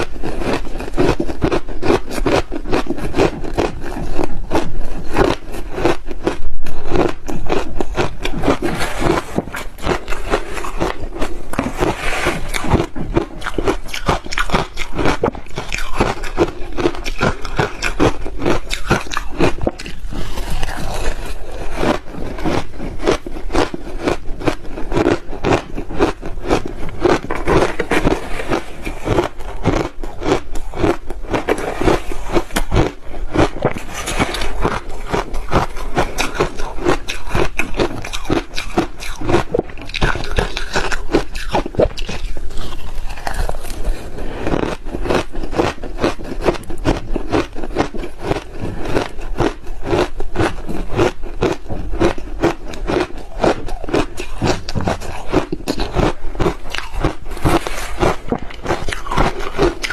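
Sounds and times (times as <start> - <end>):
crushed ice being chewed: 0.0 - 59.9.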